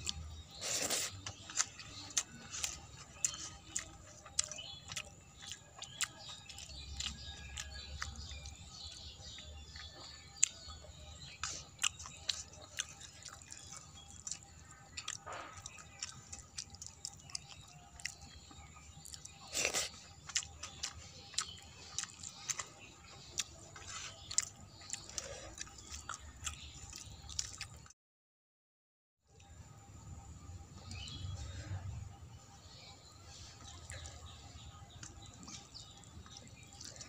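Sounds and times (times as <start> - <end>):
person chewing food: 0.0 - 27.9, 32.7 - 37.0.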